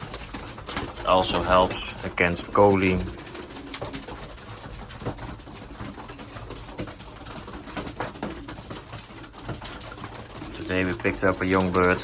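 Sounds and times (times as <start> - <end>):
pigeons cooing softly: 0.0 - 12.0.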